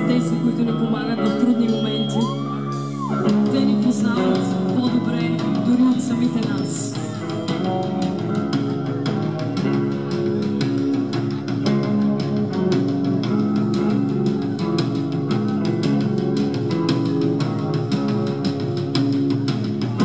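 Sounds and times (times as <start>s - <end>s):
bass guitar: 0.0s - 20.0s
electric guitar chords: 0.0s - 20.0s
steady drum beat: 0.0s - 20.0s.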